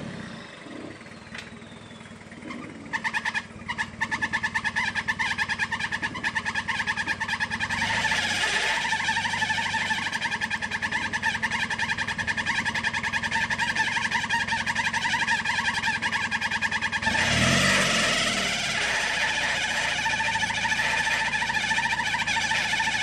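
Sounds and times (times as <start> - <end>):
off-road truck engine: 0.0 - 23.0.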